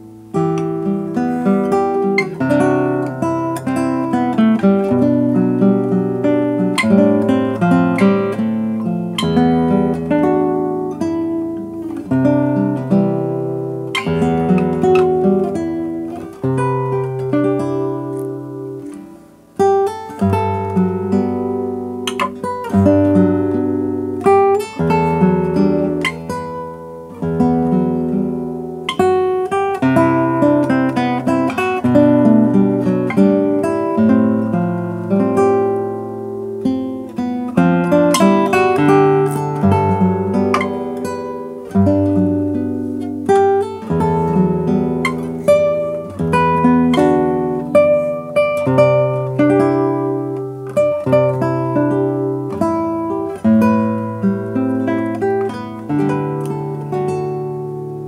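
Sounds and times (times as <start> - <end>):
classical guitar fingerstyle: 0.0 - 58.0.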